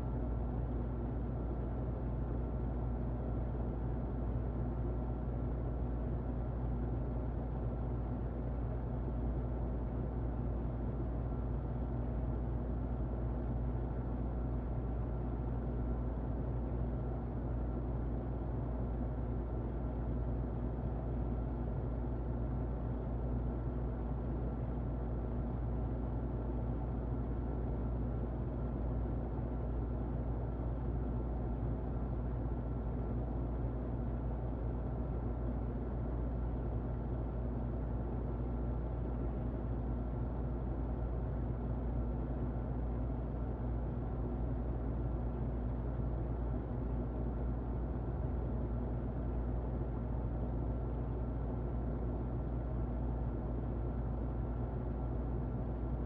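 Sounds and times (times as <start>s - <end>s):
muffled electric fan running: 0.0s - 56.0s.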